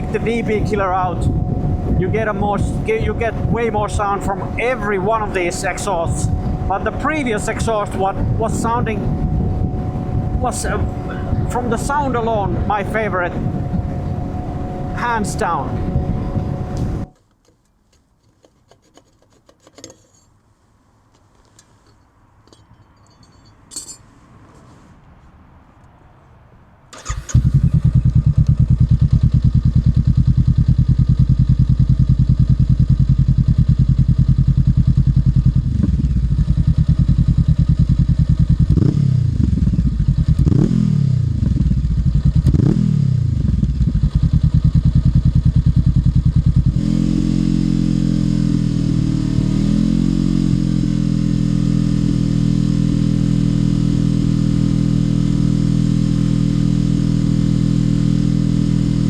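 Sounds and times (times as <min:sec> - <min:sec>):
motorcycle engine idling and revving: 0:00.0 - 0:17.1, 0:27.0 - 0:59.0.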